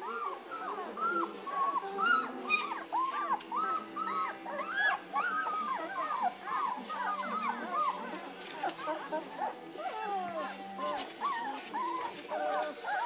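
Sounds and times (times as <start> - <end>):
puppies whimpering and squeaking: 0.0 - 13.0.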